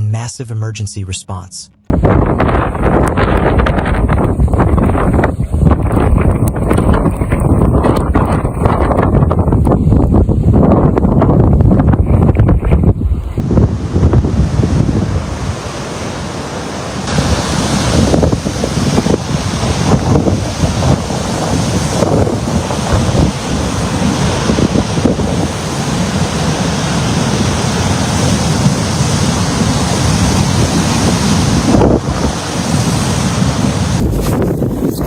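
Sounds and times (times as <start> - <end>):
strong wind buffeting microphone: 1.9 - 35.0.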